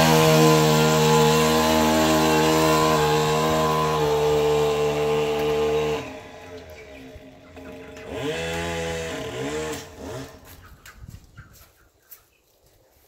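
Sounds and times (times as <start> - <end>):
small two-stroke engine revving: 0.0 - 10.6.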